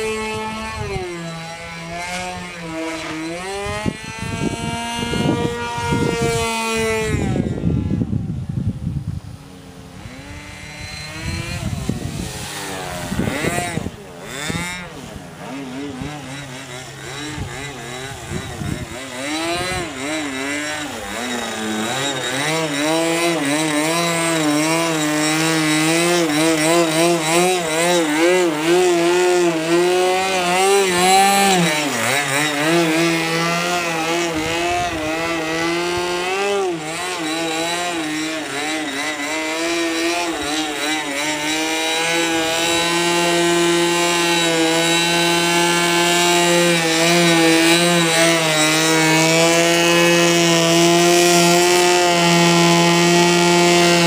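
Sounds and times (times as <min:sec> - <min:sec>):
model airplane engine running: 0:00.0 - 0:54.0.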